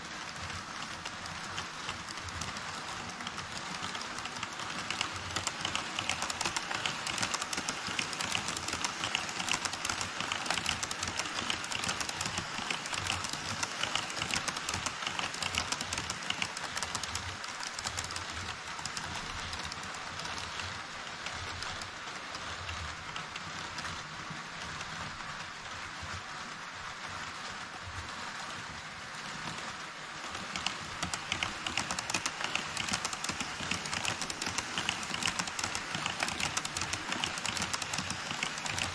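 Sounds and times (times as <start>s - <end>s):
model train wheels rattling on track: 0.0s - 38.9s.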